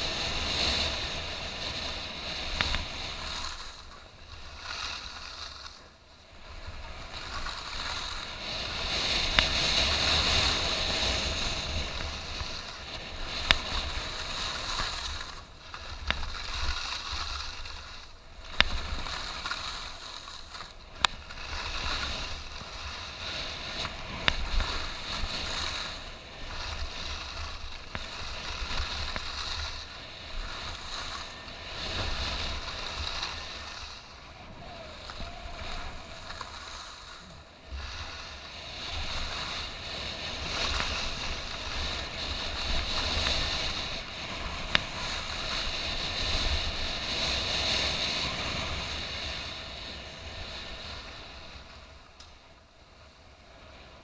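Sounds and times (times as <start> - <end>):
wind on microphone: 0.0 - 52.1
skis swishing over snow: 0.0 - 54.0.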